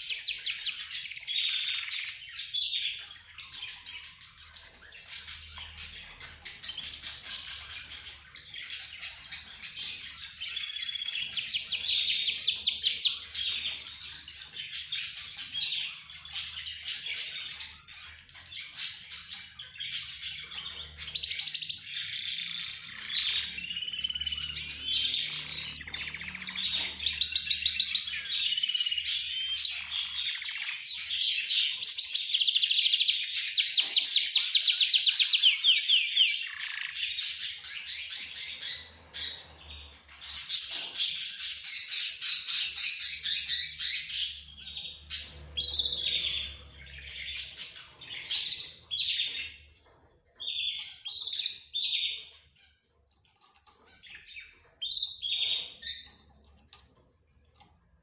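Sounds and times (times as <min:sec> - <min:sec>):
cage birds chirping and trilling: 0:00.0 - 0:58.0.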